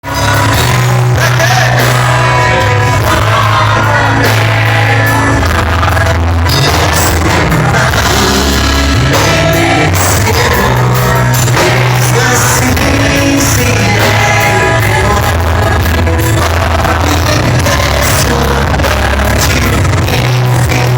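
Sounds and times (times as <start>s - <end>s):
band playing loud music: 0.0s - 20.9s
person singing: 0.0s - 20.9s
strong bass line: 0.0s - 20.9s.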